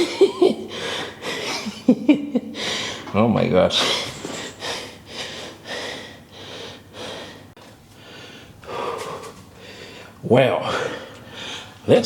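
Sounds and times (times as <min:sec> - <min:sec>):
man breathing hard: 0:00.6 - 0:01.7, 0:02.5 - 0:03.1, 0:03.8 - 0:11.8.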